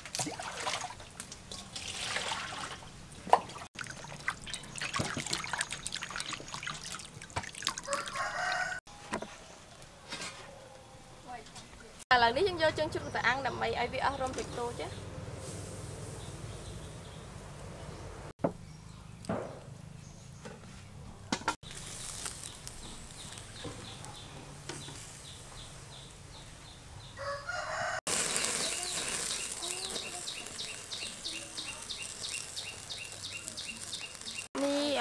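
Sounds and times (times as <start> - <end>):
birds chirping: 3.8 - 8.7, 11.3 - 21.0, 21.6 - 35.0.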